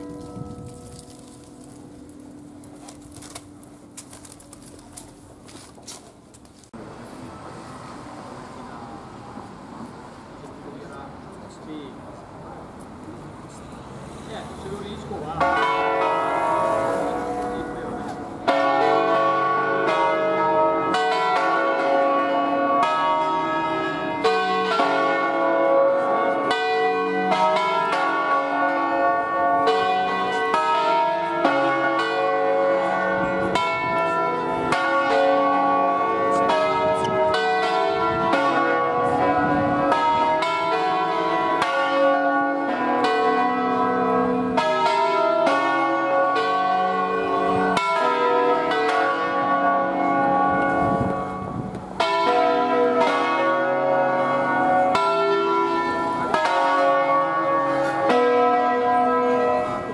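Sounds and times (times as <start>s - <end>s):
church bells ringing: 0.0s - 5.2s, 14.3s - 59.9s.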